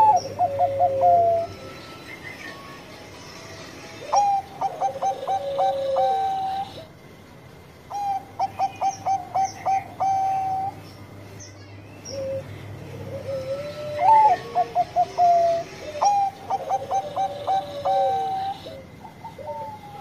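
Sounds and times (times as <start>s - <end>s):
dove cooing: 0.0s - 2.4s, 4.0s - 6.9s, 7.9s - 10.8s, 12.1s - 20.0s.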